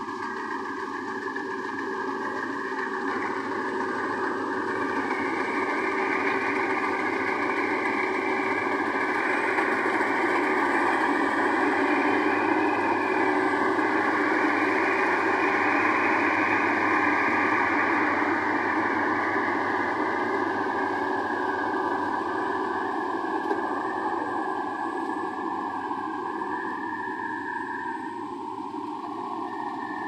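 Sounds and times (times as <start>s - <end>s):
harvester engine running: 0.0s - 30.0s.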